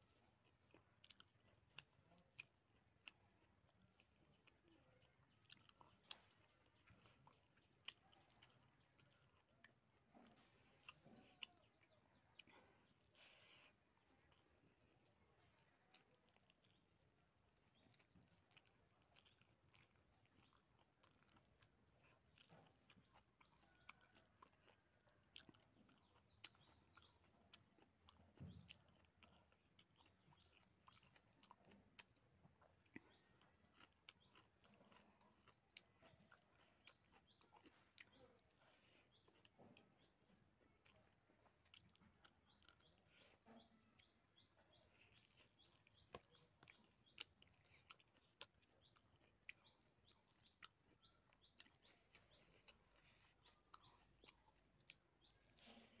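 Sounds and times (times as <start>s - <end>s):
person chewing with wet smacks: 0.0s - 56.0s.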